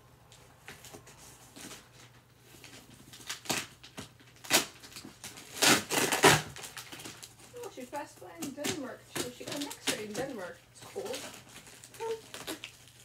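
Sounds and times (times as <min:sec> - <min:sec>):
packaging rustling: 0:00.6 - 0:13.0.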